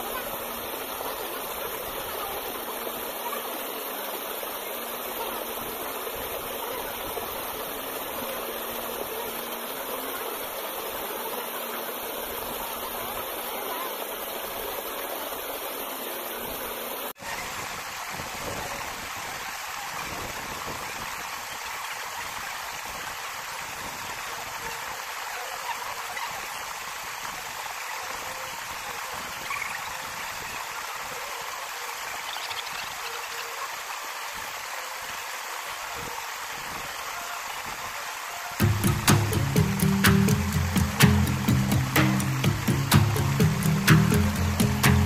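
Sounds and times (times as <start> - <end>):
stream water flowing over rocks: 0.0 - 45.0.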